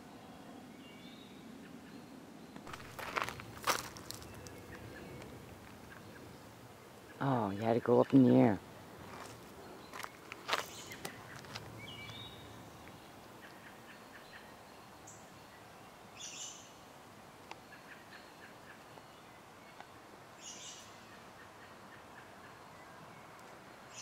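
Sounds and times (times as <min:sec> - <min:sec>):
faint bird chirping: 0:00.0 - 0:16.9, 0:17.5 - 0:24.0.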